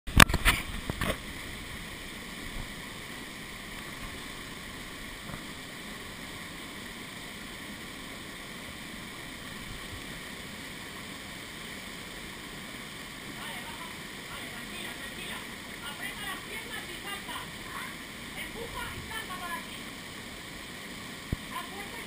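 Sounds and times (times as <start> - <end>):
waterfall rushing: 0.1 - 22.0.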